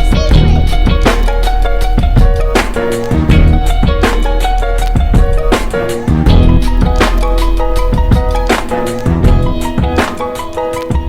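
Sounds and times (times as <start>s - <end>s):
music with heavy bass and drums: 0.0s - 11.0s.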